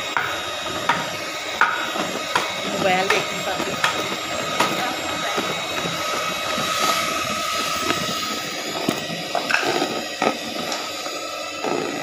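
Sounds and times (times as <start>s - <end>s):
electric hand mixer humming: 0.0s - 12.0s.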